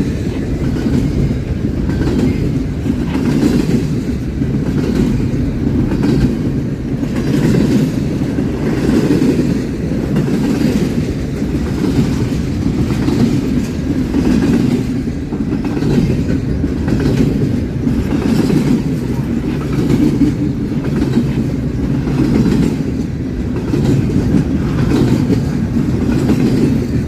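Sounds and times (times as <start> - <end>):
faint rail clacks: 0.0 - 27.0
train wheels rumbling on rail: 0.0 - 27.0.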